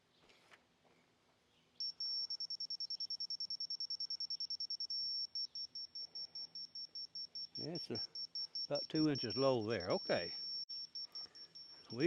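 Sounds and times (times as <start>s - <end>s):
high-pitched electronic beeping: 1.8s - 12.0s.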